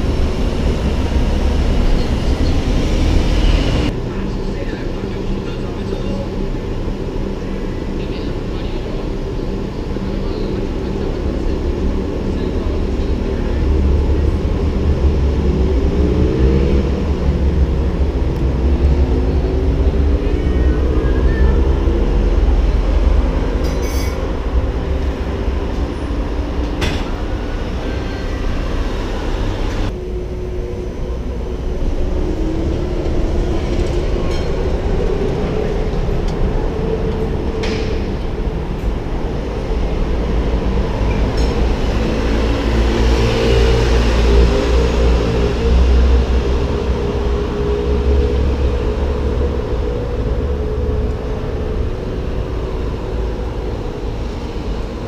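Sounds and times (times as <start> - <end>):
traffic engines rumbling: 0.0 - 55.0.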